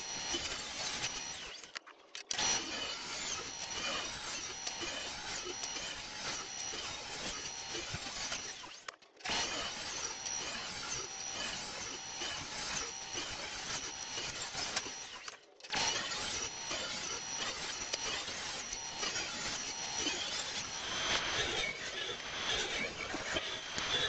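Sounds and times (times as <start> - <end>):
table saw cutting wood: 0.0 - 1.7, 2.3 - 24.0.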